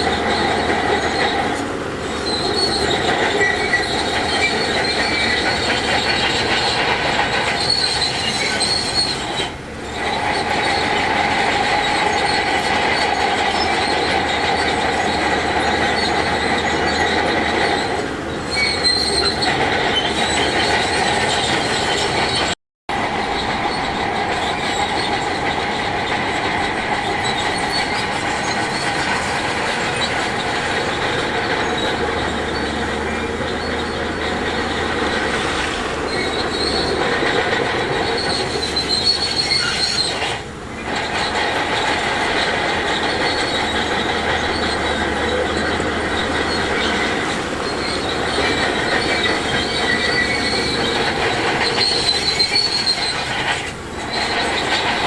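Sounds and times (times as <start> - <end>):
running gear squealing: 0.0 - 22.6, 23.2 - 55.0
heavy machinery running: 0.0 - 55.0.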